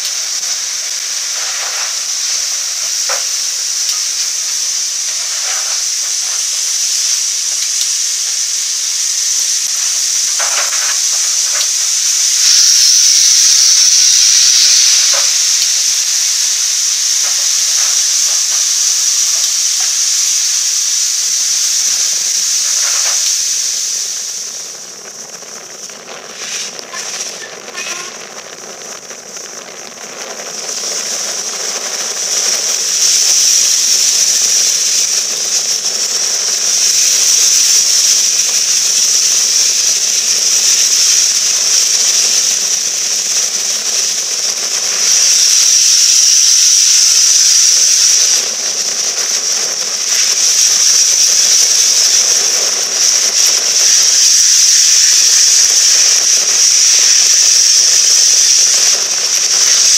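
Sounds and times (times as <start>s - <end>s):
steam hissing: 0.0s - 59.9s.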